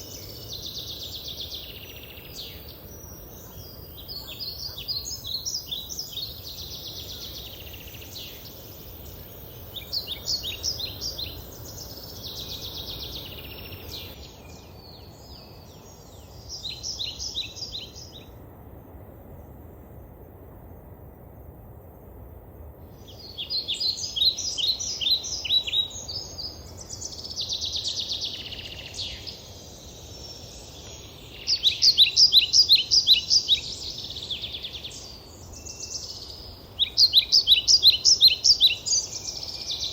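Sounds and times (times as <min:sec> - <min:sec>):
songbirds trilling: 0:00.0 - 0:18.4, 0:22.9 - 0:39.9
low background noise: 0:00.0 - 0:39.9.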